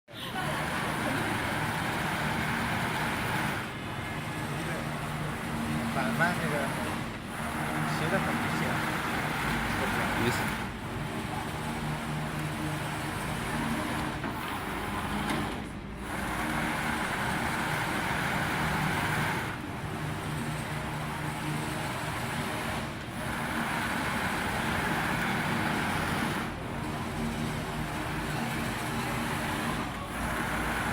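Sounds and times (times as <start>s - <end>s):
machine hum: 0.3s - 30.9s.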